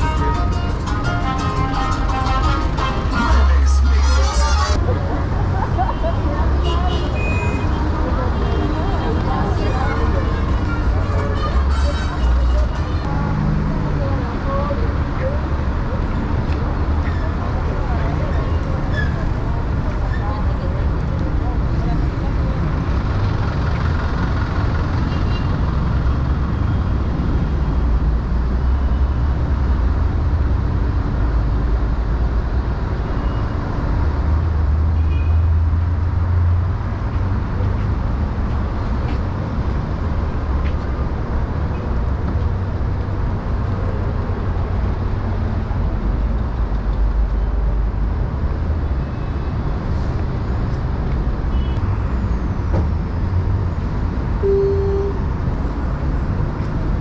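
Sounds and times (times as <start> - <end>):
city traffic passing: 0.0 - 57.0.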